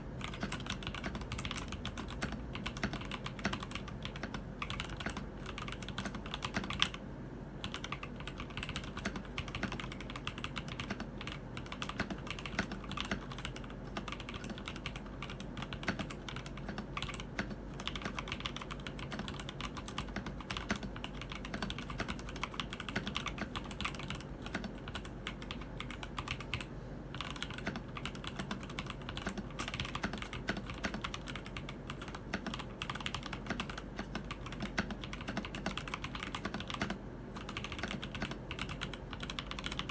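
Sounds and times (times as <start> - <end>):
mechanical keyboard typing: 0.0 - 7.0, 7.6 - 39.9.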